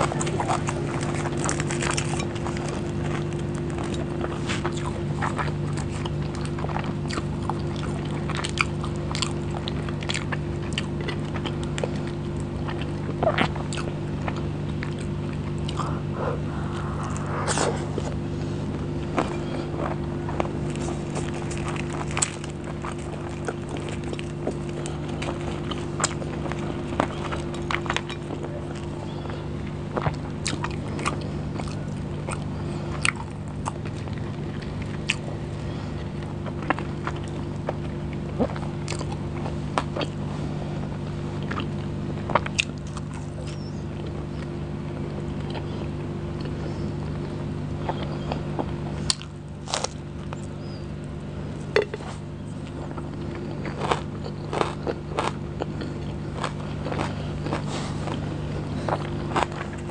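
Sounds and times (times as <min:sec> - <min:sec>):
person chewing and biting food: 0:00.0 - 0:59.9
steady low hum: 0:00.0 - 0:59.9.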